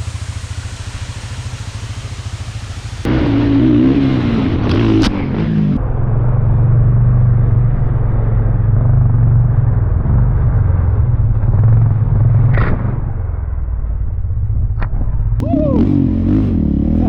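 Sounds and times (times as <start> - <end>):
atv engine rumbling: 0.0 - 17.0.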